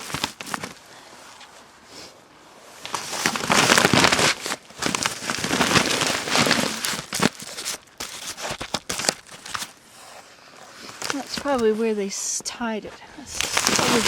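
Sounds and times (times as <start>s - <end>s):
rustling and crackling handling: 0.0s - 1.6s, 2.8s - 14.0s.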